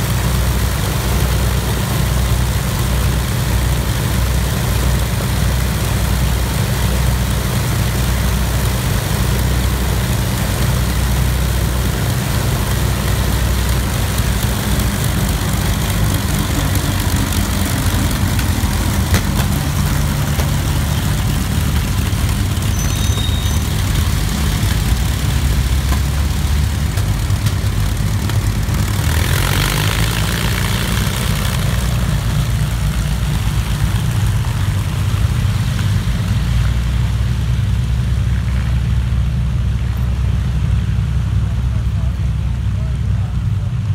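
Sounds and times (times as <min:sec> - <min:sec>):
propeller aircraft engines droning: 0:00.0 - 0:43.9.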